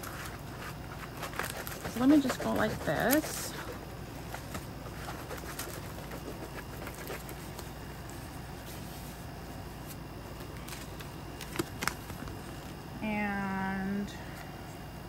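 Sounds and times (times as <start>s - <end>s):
paper rustling: 0.0s - 12.8s
steady low hum: 0.0s - 15.0s.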